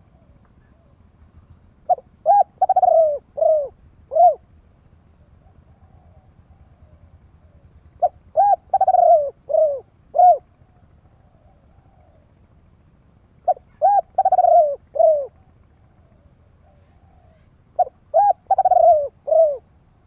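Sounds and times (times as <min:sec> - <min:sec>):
dove cooing: 0:00.0 - 0:01.1, 0:01.8 - 0:04.6, 0:05.2 - 0:12.6, 0:13.4 - 0:20.0.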